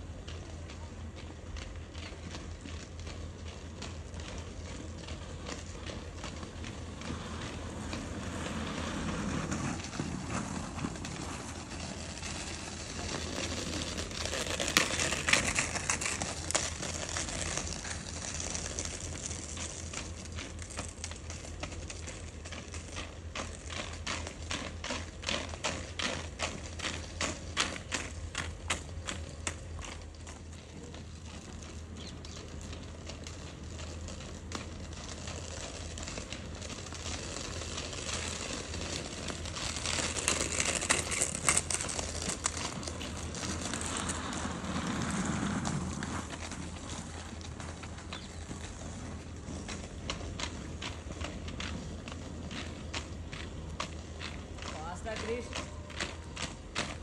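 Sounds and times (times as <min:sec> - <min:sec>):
skate wheels rolling on asphalt: 0:00.0 - 0:57.0.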